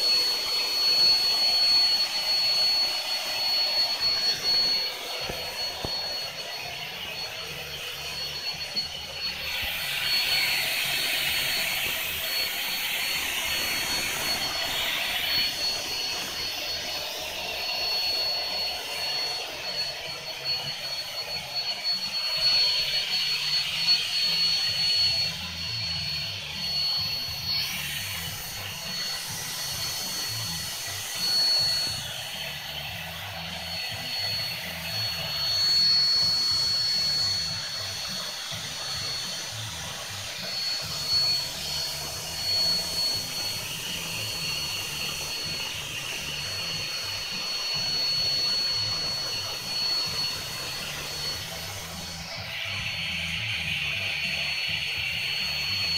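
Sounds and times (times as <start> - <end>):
electric air blower whining: 0.0 - 55.9.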